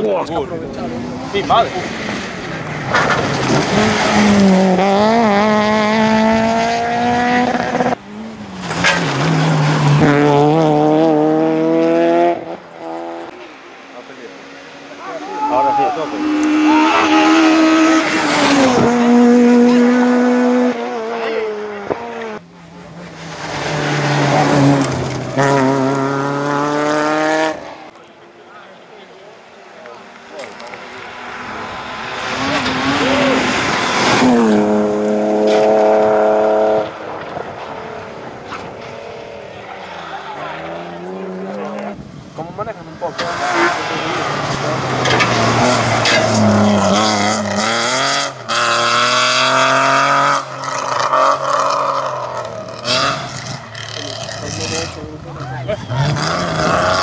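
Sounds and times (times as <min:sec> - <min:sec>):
gravel and tyre noise: 0:00.0 - 0:57.0
rally car engines at high revs: 0:00.0 - 0:57.0.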